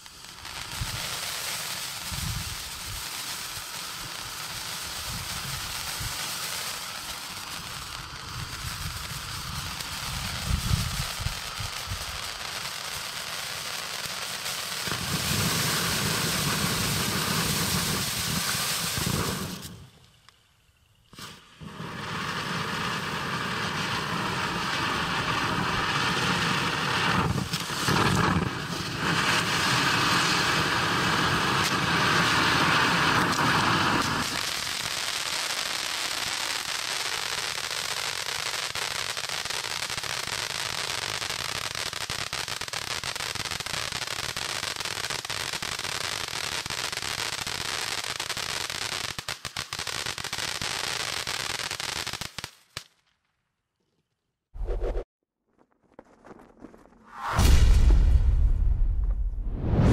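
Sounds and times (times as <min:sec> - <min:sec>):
firework fountain hissing: 0:00.0 - 0:52.8
firework crackling: 0:00.0 - 0:53.0, 0:54.6 - 0:59.9.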